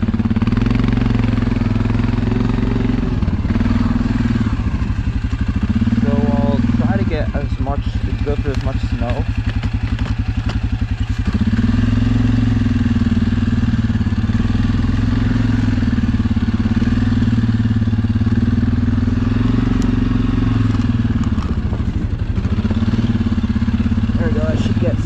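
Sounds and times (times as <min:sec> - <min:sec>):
atv engine under throttle: 0:00.0 - 0:25.0.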